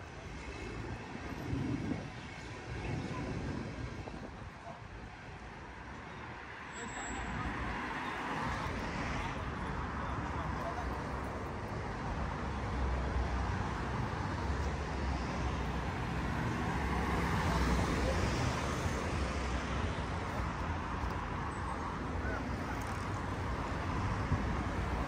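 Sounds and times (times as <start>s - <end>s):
cars passing on street: 0.0s - 25.0s.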